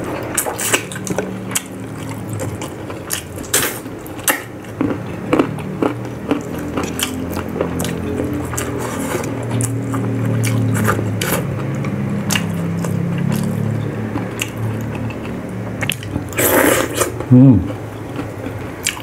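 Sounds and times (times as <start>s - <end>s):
wet chewing and mouth clicks: 0.4s - 16.3s, 17.0s - 19.0s.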